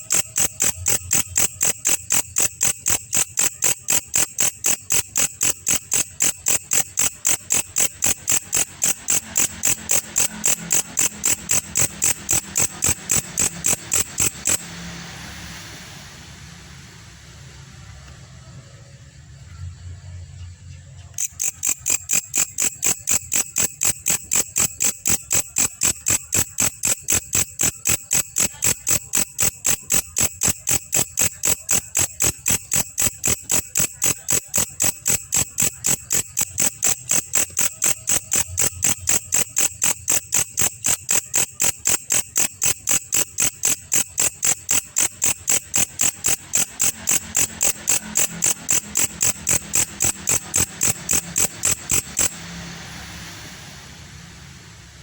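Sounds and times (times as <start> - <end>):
insect chirping: 0.0 - 15.6, 18.9 - 52.5.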